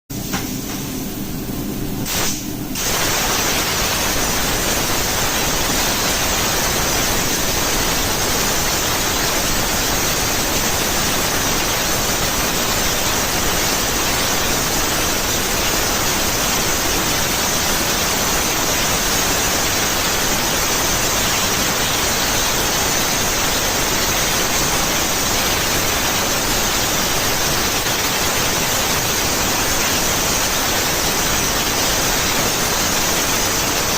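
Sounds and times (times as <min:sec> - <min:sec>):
plasma cutter arc hissing: 0:02.0 - 0:33.9.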